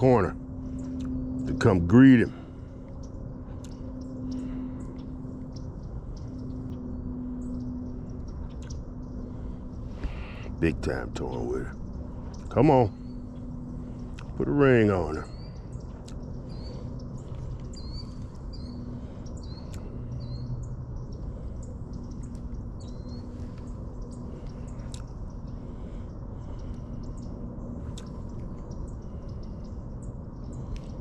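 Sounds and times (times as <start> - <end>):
bird chirping: 0.0 - 31.0
steady low hum: 0.0 - 31.0.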